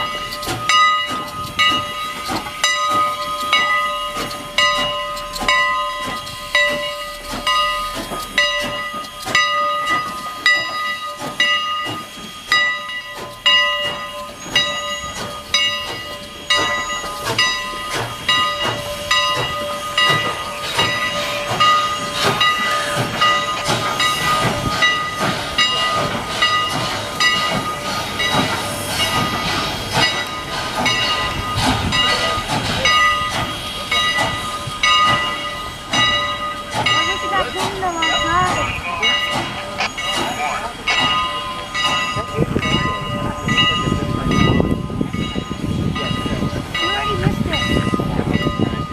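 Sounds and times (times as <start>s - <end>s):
locomotive bell ringing: 0.0s - 48.9s
steam hissing: 0.0s - 48.9s
train rumble: 0.0s - 48.9s.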